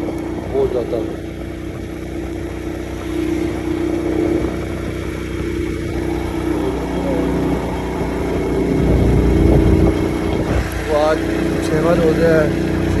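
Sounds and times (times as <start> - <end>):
low rumble: 0.0 - 11.6
motorcycle engine running: 0.0 - 13.0.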